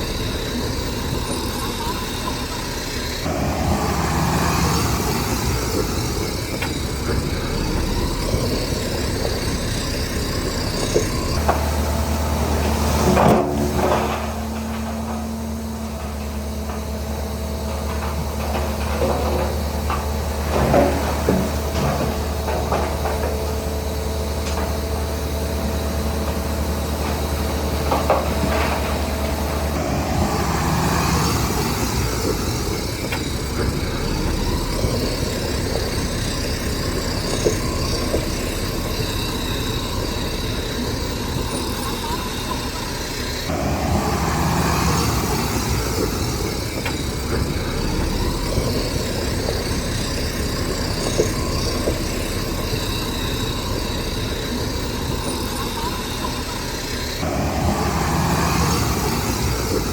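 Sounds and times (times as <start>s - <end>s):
metallic clanks and knocks: 0.0s - 57.2s
heavy diesel machinery running: 0.0s - 59.9s.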